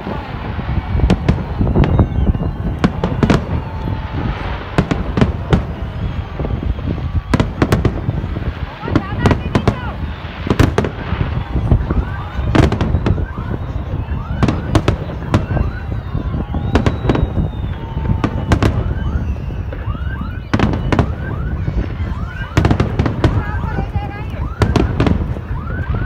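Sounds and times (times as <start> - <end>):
fireworks bursting bangs: 0.0 - 26.0.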